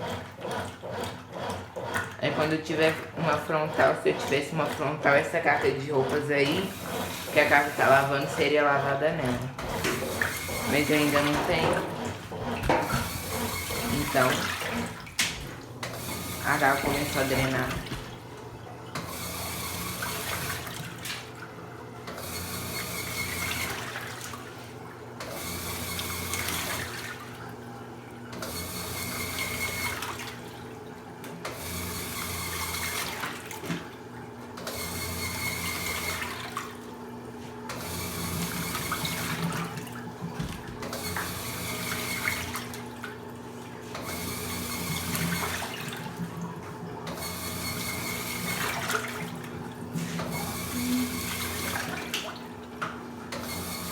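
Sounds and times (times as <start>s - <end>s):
low pump hum: 0.0s - 28.4s, 35.6s - 53.9s.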